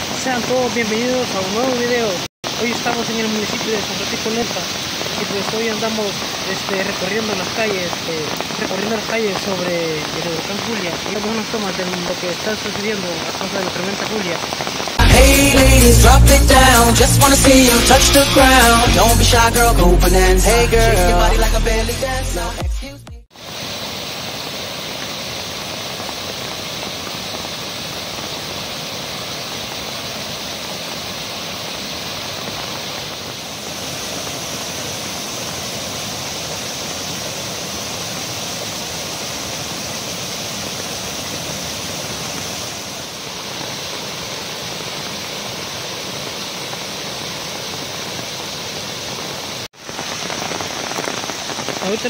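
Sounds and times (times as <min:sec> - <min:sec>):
water rushing over rocks: 0:00.0 - 0:21.4, 0:23.3 - 0:52.0.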